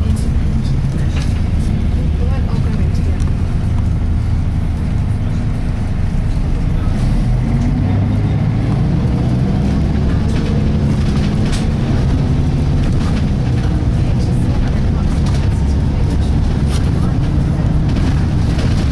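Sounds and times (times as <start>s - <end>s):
bus engine under way: 0.0s - 18.9s.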